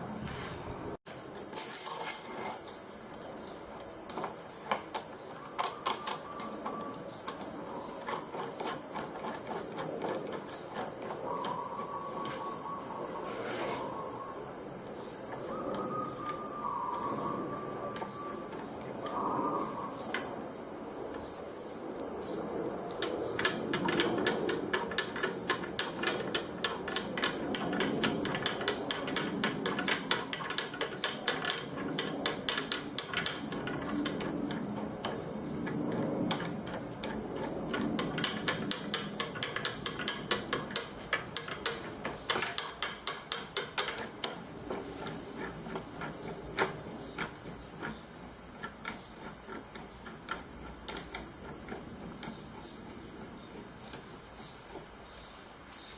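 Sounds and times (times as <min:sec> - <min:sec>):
rapid mechanical clicking: 0:00.0 - 0:12.4, 0:22.5 - 0:55.2.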